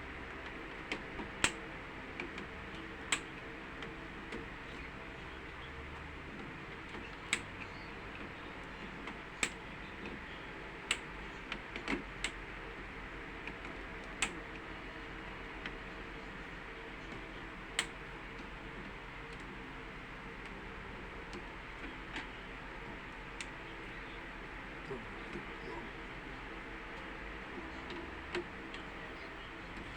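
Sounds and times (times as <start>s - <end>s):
electrical hum: 0.0s - 29.9s.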